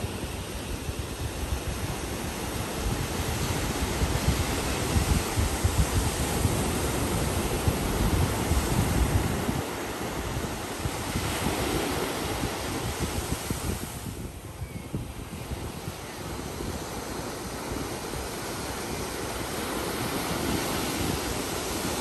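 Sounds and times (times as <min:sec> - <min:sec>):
surf washing up beach: 0:00.0 - 0:22.0
wind buffeting microphone: 0:00.0 - 0:22.0.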